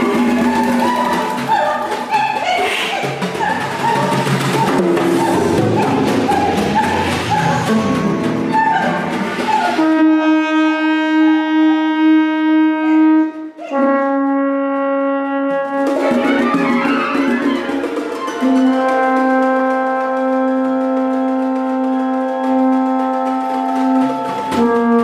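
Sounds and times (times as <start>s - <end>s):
wind instrument holding long note: 3.8s - 25.0s
symphony orchestra playing: 4.6s - 25.0s.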